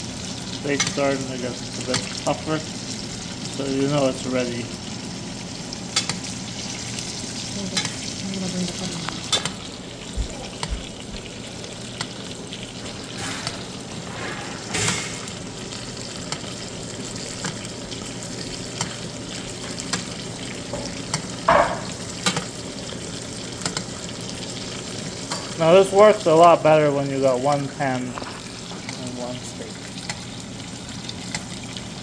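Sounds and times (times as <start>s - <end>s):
steaks sizzling in butter: 0.0s - 32.0s.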